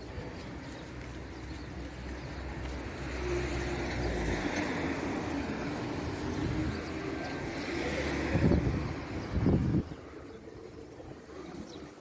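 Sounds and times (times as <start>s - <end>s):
outdoor noise: 0.0s - 12.0s
motor vehicle passing: 2.0s - 12.0s.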